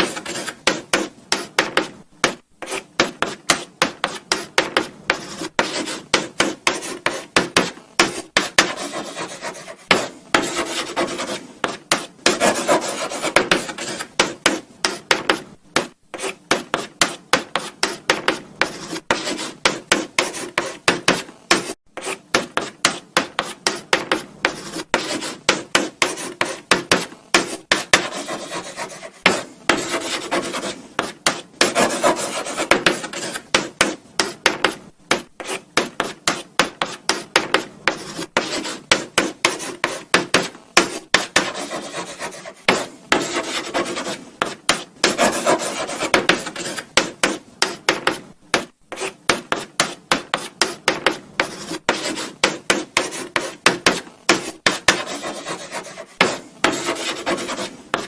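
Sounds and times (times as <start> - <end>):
chalk scratching on blackboard: 0.0 - 58.0
chalk tapping on board: 0.0 - 58.0.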